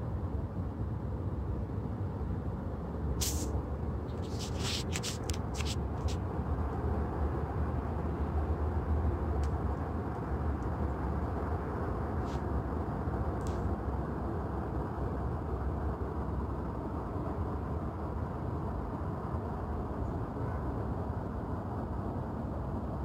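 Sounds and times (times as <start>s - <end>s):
distant city traffic rumble: 0.0s - 23.0s.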